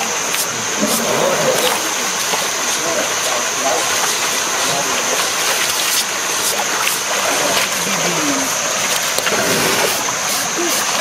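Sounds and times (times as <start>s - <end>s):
flowing stream rushing: 0.0s - 11.0s
water splashing: 0.0s - 11.0s.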